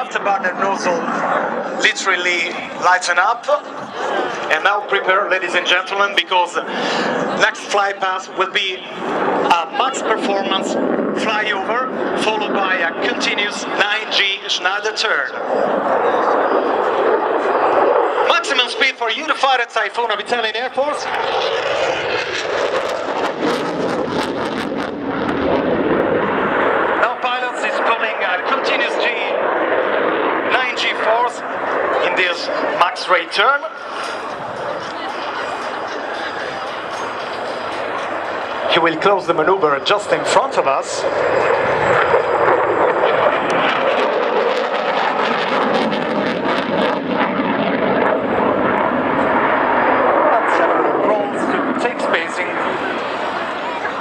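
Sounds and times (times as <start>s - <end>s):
jet engines roaring in flyover: 0.0s - 54.0s.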